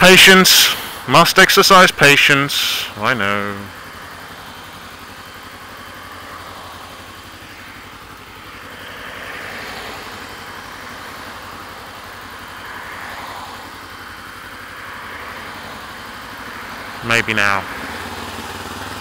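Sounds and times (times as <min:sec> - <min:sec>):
motorcycle idling: 0:00.0 - 0:19.0
traffic passing: 0:00.0 - 0:19.0.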